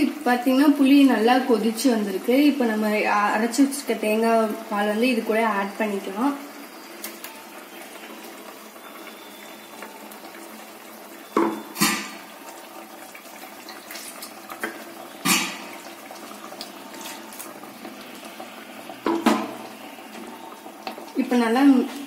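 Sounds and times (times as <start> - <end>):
curry bubbling in a pan: 0.0 - 22.0.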